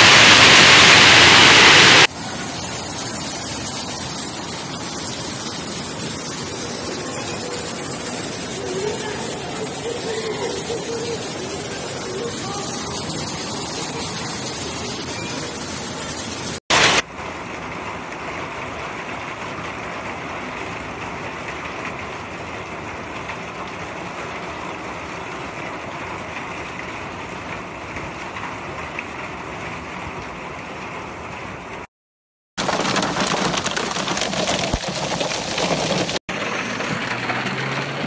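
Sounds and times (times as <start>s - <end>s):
heavy rain pouring: 0.0s - 31.9s, 32.6s - 38.0s.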